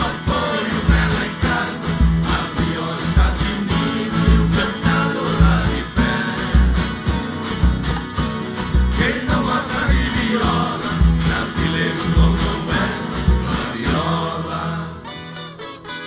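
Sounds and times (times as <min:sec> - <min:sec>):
steady bass beat: 0:00.0 - 0:13.7
strummed acoustic guitars: 0:00.0 - 0:16.0.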